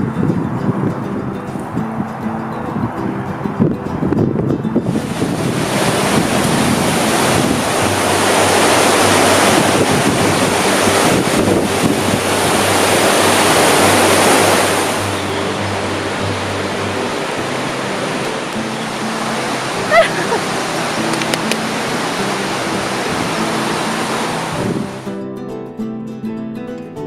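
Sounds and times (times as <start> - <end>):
sea waves rushing in: 0.0 - 25.1
wind buffeting microphone: 0.0 - 25.1
music: 0.0 - 27.0.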